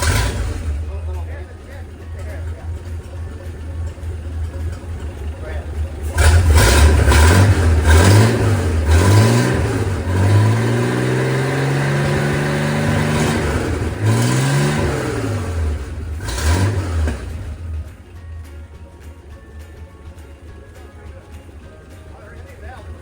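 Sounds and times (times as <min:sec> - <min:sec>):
marine engine revving: 0:00.0 - 0:23.0.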